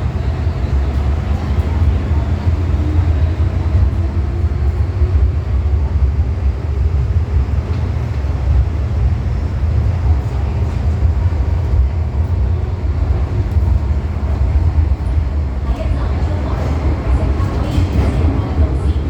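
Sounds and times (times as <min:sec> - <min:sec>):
train rumbling through tunnel: 0:00.0 - 0:19.0.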